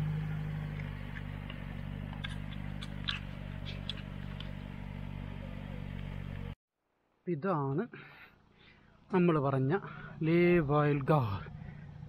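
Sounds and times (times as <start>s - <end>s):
car engine running low hum: 0.0s - 6.6s, 8.6s - 12.0s.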